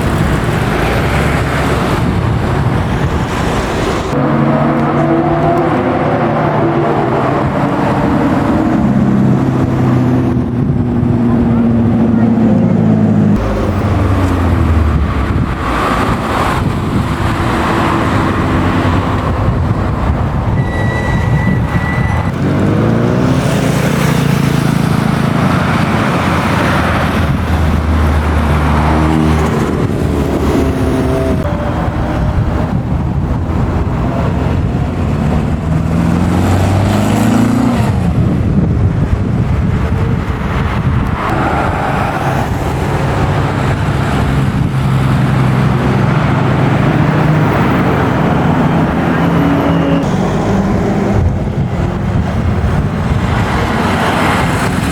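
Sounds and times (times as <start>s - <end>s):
racing car engines revving: 0.0s - 54.9s.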